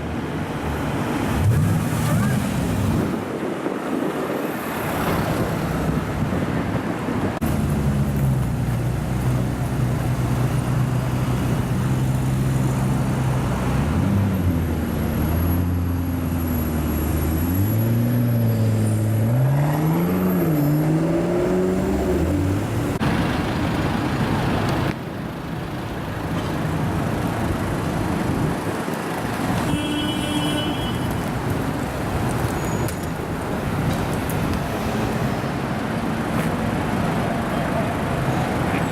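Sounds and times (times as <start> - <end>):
street traffic: 0.0 - 38.9.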